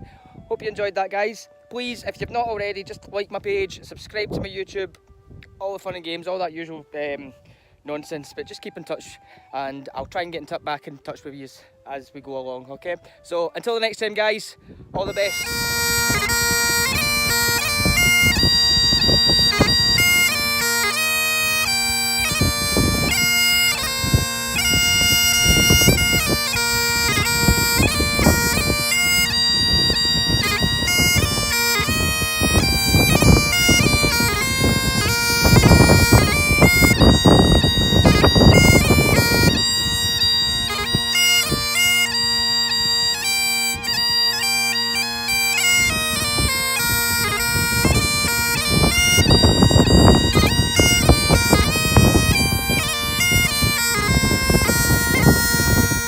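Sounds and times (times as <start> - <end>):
bagpipes playing: 6.8 - 9.8, 12.5 - 56.0.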